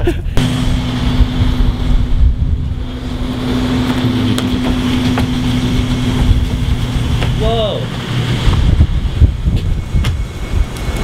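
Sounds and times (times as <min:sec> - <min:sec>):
steady mechanical hum: 0:00.0 - 0:11.0
low rumble: 0:00.3 - 0:11.0.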